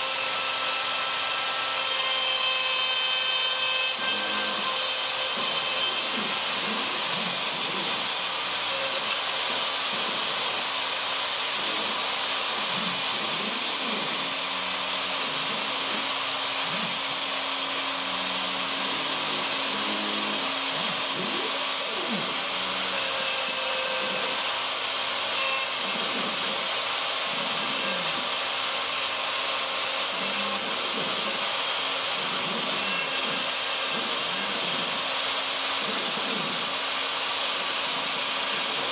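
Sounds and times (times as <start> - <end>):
router cutting wood: 0.0 - 38.9.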